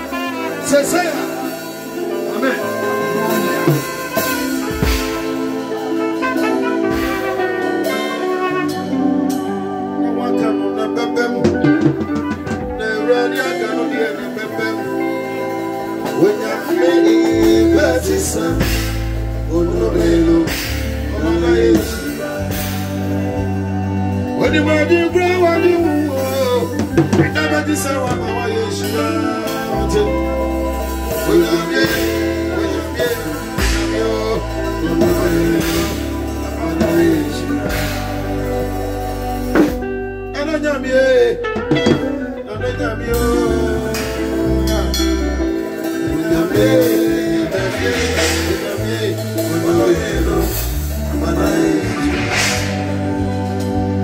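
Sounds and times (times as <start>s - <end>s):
conga drums: 0.0s - 9.8s, 11.3s - 40.1s, 41.4s - 42.4s, 43.1s - 54.0s
drum kit beat: 0.0s - 10.6s, 11.3s - 40.4s, 41.4s - 42.4s, 43.1s - 54.0s
bass guitar: 0.0s - 54.0s
electric guitars: 0.0s - 54.0s
man singing: 0.0s - 54.0s.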